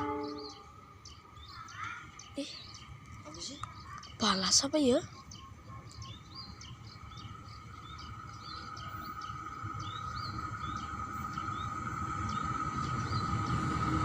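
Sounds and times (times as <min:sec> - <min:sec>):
approaching train rumble and hum: 0:00.0 - 0:14.0
small birds chirping: 0:00.0 - 0:14.0.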